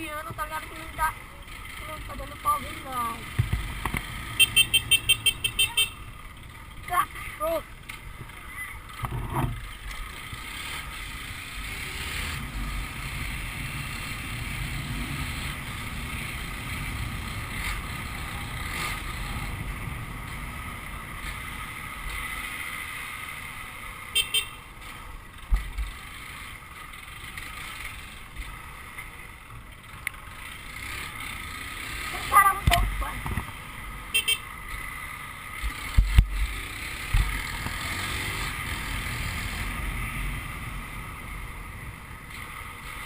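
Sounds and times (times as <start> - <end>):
motorcycle engine: 0.0 - 43.0
wind and road noise: 0.0 - 43.0.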